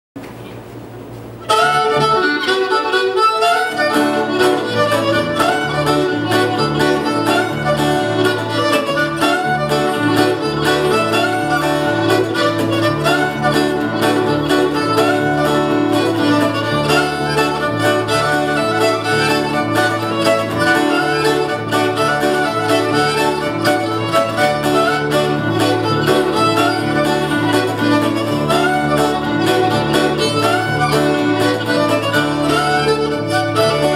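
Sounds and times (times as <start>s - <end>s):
bass guitar: 1.3s - 33.9s
fiddle playing fast tune: 1.4s - 33.9s
strummed acoustic guitar: 1.5s - 33.9s.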